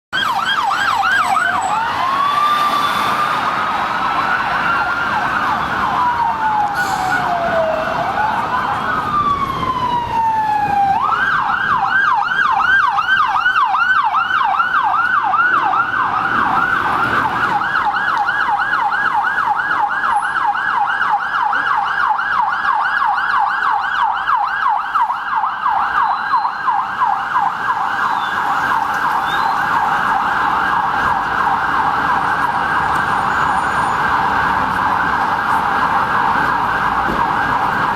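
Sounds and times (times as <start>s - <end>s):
police siren wailing and yelping: 0.1s - 37.9s
traffic noise: 0.1s - 37.9s.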